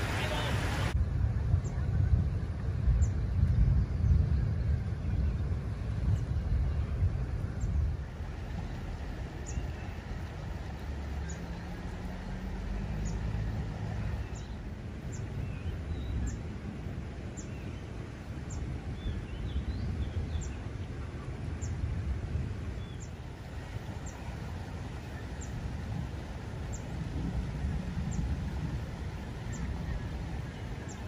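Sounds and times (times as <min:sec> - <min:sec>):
low uneven rumble: 0:00.0 - 0:31.0.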